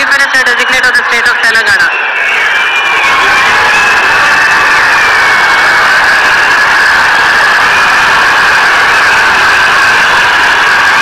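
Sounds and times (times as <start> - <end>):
crowd cheering and shouting: 0.0 - 11.0.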